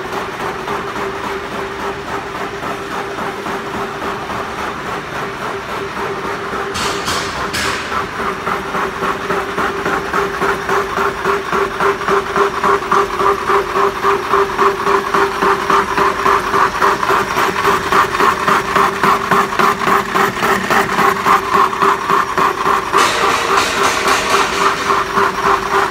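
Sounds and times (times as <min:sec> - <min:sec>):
rhythmic spindle cutting metal: 0:00.0 - 0:25.9.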